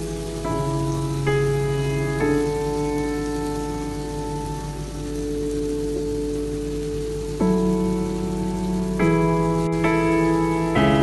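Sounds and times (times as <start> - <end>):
chicken sizzling in a pan: 0.0 - 11.0
keyboard chords background music: 0.0 - 11.0.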